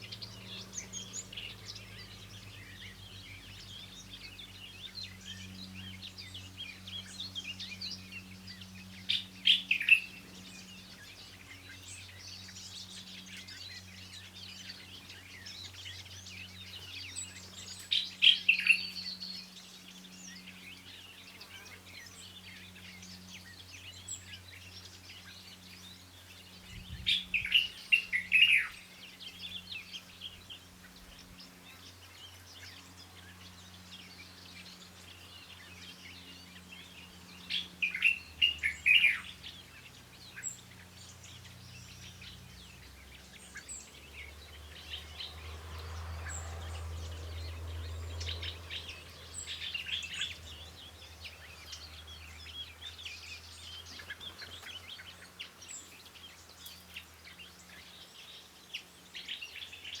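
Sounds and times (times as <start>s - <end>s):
songbirds chirping: 0.0s - 60.0s.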